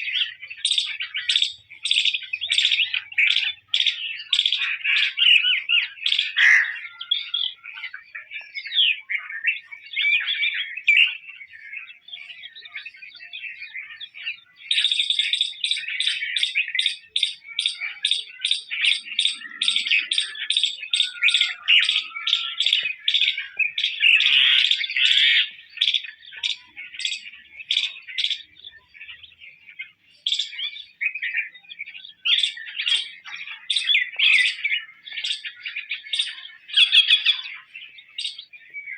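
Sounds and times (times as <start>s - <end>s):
birds chirping and twittering: 0.0s - 38.9s
sharp repeated bird chirps: 0.0s - 38.9s.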